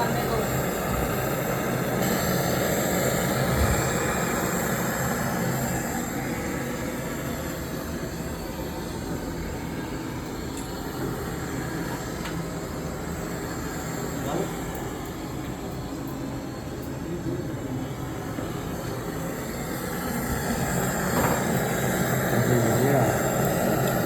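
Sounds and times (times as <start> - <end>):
mechanical running hum and hiss: 0.0 - 24.0.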